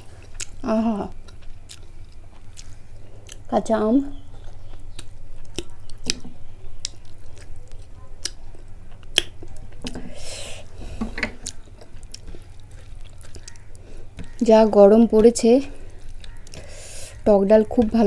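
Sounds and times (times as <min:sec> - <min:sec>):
wet chewing with mouth clicks: 0:00.0 - 0:10.3, 0:11.4 - 0:18.0.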